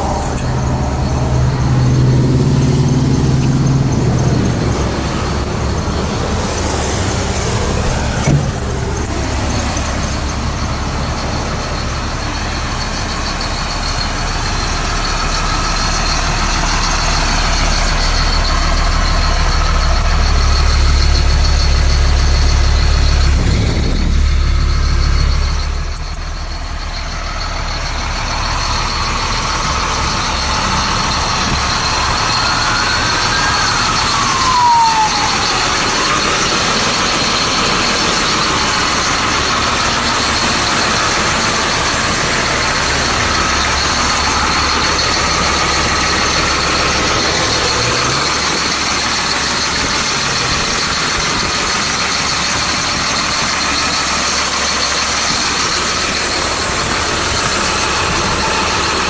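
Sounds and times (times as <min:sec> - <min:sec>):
diesel engine rumbling: 0:00.0 - 0:59.0.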